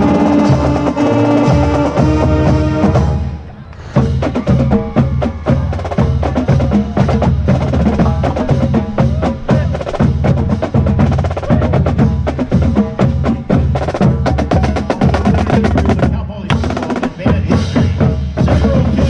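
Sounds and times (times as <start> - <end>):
snare and tenor drums: 0.0 - 19.0.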